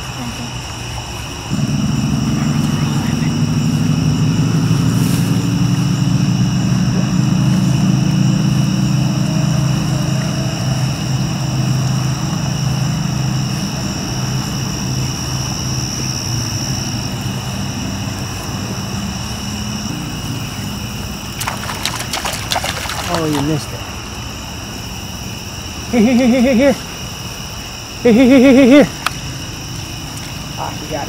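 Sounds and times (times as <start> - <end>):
night insects chirping: 0.0 - 31.0.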